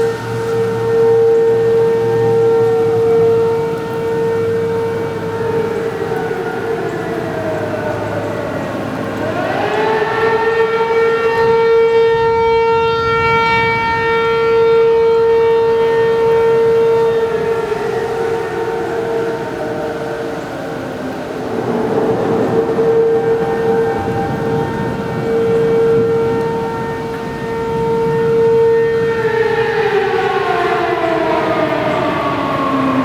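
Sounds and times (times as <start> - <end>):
rising and falling siren: 0.0 - 33.0
steady tone siren: 0.0 - 33.0.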